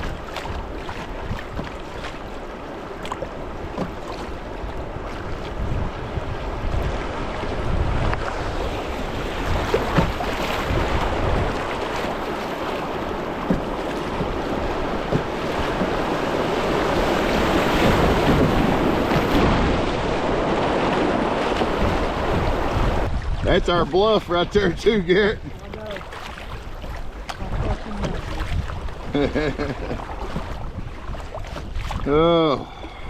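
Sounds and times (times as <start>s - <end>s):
river water rushing and splashing: 0.0s - 33.0s
wind buffeting microphone: 0.0s - 33.0s.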